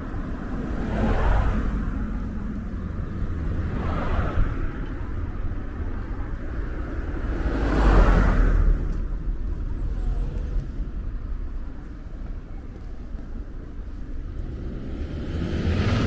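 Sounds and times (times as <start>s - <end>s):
car passing: 0.0s - 16.0s
low traffic rumble: 0.0s - 16.0s
vehicle tyre and engine noise: 0.0s - 16.0s.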